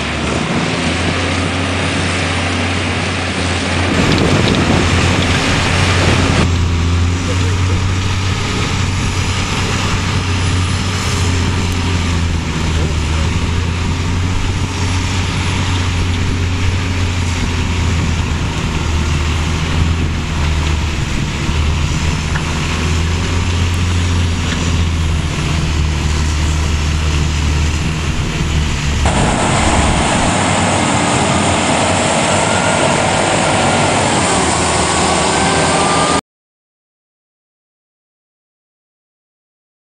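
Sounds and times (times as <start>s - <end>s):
high-pitched snow blower whine: 0.0s - 36.2s
snow blower engine drone: 0.0s - 36.2s.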